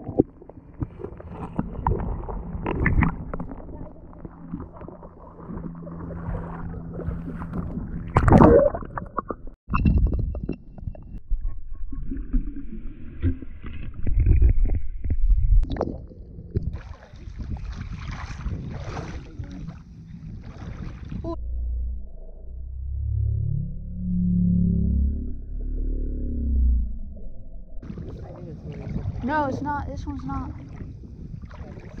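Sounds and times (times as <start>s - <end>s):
muffled underwater rumble: 0.0s - 32.0s
water sloshing and gurgling: 0.0s - 32.0s.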